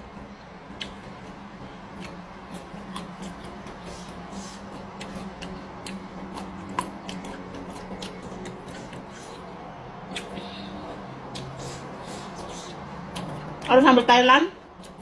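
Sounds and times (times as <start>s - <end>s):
steady low hum: 0.0s - 15.0s
person chewing crunchy food: 0.7s - 13.7s.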